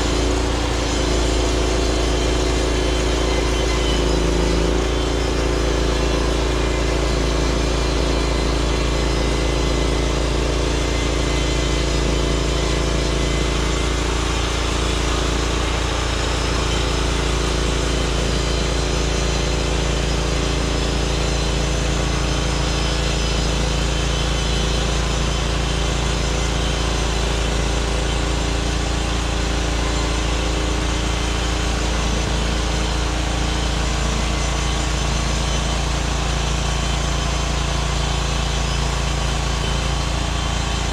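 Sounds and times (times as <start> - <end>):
bandsaw mill engine under load: 0.0 - 40.9
blade sawing through log: 0.0 - 40.9.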